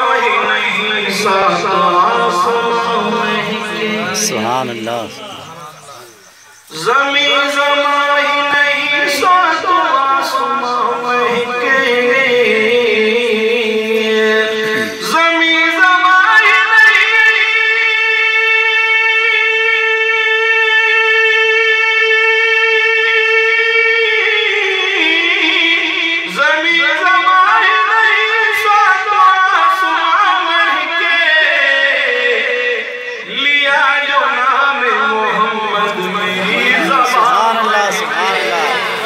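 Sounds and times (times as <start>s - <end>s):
man singing devotional melody: 0.0s - 5.7s, 6.7s - 39.0s.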